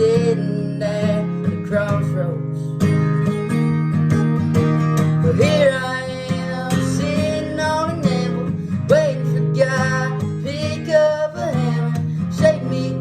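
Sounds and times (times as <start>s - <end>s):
person singing country song: 0.0s - 3.6s, 4.6s - 13.0s
strummed acoustic guitar: 0.0s - 13.0s.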